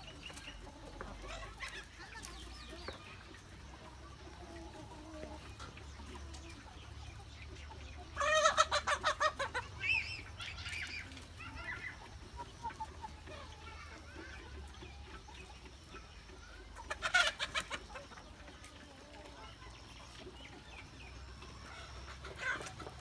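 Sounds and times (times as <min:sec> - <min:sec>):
chicken cackling loudly: 0:00.0 - 0:23.0
chickens clucking: 0:00.0 - 0:23.0.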